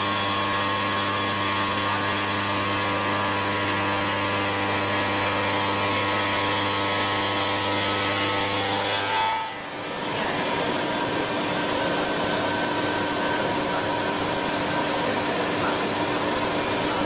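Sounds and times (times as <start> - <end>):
stone router whining: 0.0 - 17.0.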